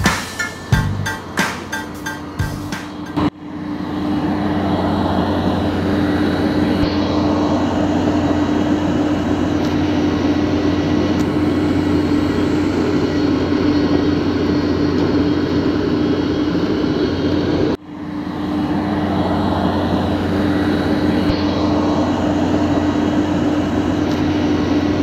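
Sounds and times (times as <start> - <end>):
machine drone: 0.0 - 25.0.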